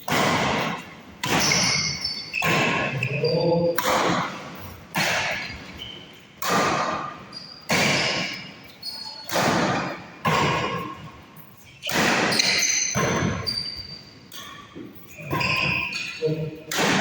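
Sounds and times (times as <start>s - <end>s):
racket hitting shuttlecock: 0.0s - 3.1s, 3.7s - 5.8s, 6.4s - 11.1s, 11.8s - 17.0s.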